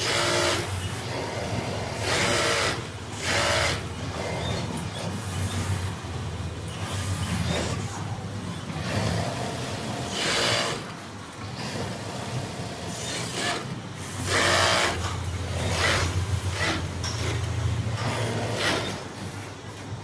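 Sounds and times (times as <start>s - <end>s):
rapid machine stitching: 0.0s - 6.0s, 8.6s - 19.5s
sewing machine motor hum: 0.0s - 7.9s, 8.6s - 19.5s.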